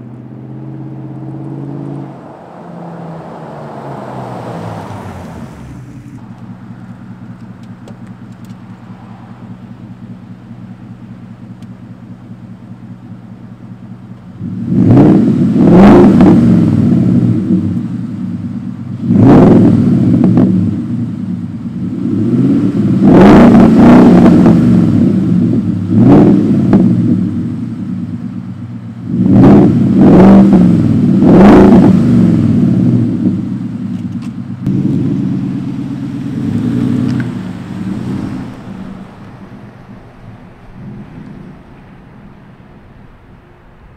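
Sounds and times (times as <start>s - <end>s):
engine exhaust revving: 0.0s - 18.0s, 18.9s - 21.1s, 21.7s - 28.0s, 28.9s - 33.7s, 34.6s - 43.5s.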